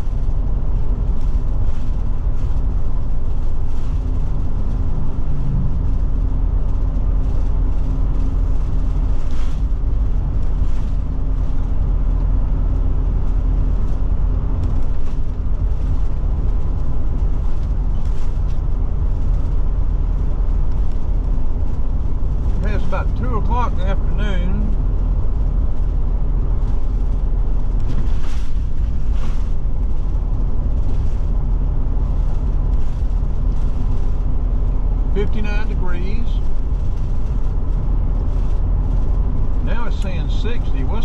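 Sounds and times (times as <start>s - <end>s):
road noise: 0.0s - 41.0s
vehicle engine hum: 0.0s - 41.0s.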